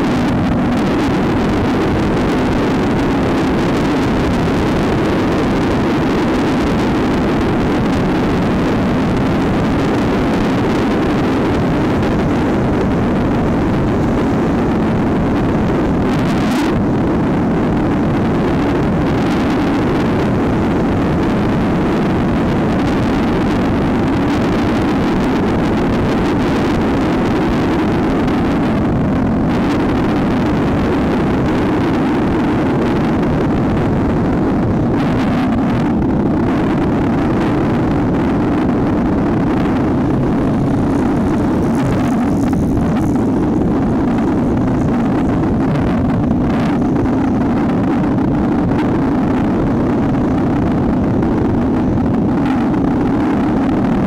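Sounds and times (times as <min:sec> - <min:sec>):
motorcycle engine running: 0:00.0 - 0:54.0
rushing air noise: 0:00.0 - 0:54.0.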